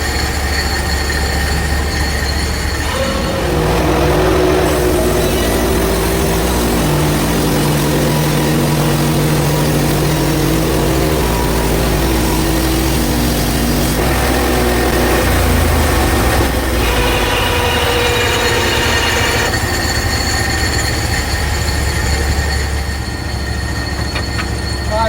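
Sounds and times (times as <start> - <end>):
bandsaw mill engine under load: 0.0 - 25.0.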